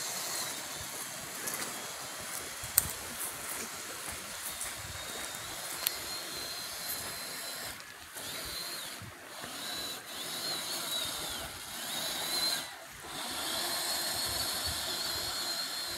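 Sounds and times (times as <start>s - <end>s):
toy car electric motor whining: 0.0s - 3.0s, 4.4s - 15.9s.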